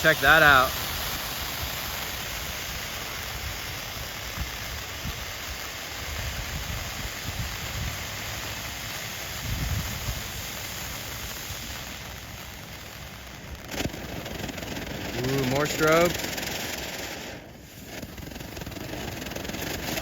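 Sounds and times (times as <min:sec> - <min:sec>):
dull low firework thumps: 0:00.0 - 0:20.0
firework hissing spray: 0:00.0 - 0:20.0.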